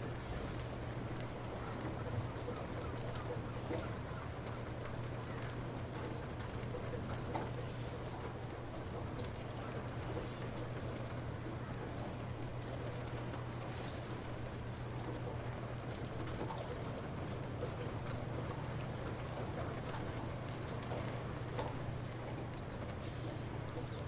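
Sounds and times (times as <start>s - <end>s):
light rain falling: 0.0s - 24.0s
faint drips: 0.1s - 24.0s.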